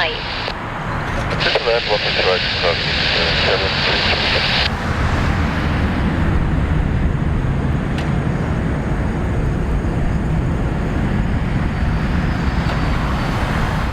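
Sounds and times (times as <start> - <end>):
jet engines rumbling: 0.0 - 13.9.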